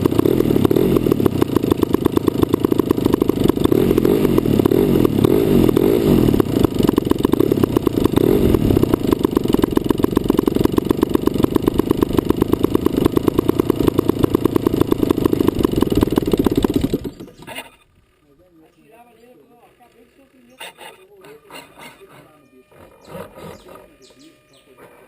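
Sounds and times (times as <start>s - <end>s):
model plane engine idling: 0.0s - 18.7s, 19.5s - 25.0s.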